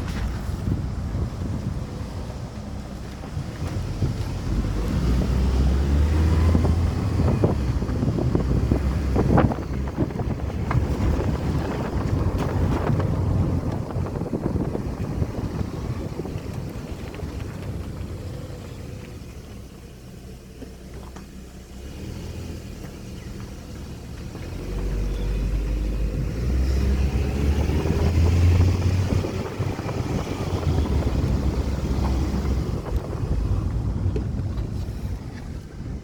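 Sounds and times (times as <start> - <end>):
wind buffeting microphone: 0.0 - 19.7, 23.2 - 36.0.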